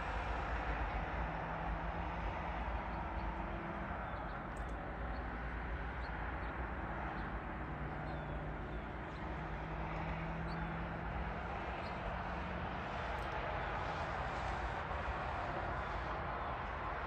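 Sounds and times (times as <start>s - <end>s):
distant traffic rumble: 0.0s - 17.0s
faint engine hum: 0.0s - 17.0s.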